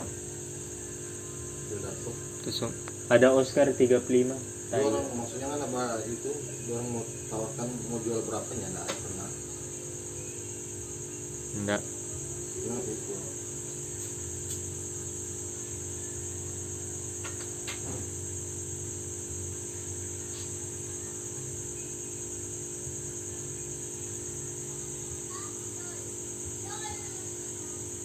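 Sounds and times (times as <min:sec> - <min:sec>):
crickets trilling: 0:00.0 - 0:28.0
low even hum: 0:00.0 - 0:28.0.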